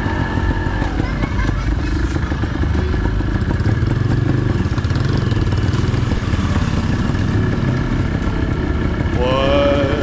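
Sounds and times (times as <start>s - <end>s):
two-stroke motorcycle engine running: 0.0s - 10.0s.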